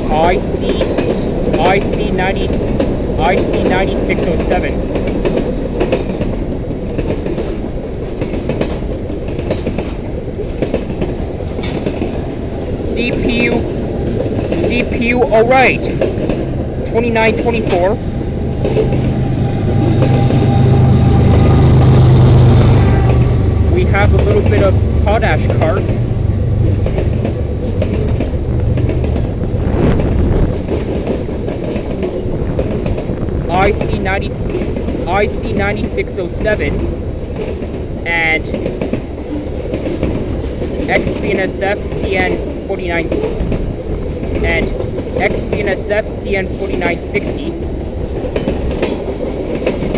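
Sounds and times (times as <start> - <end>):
train wheels rumbling on rails: 0.0 - 10.0, 10.6 - 49.9.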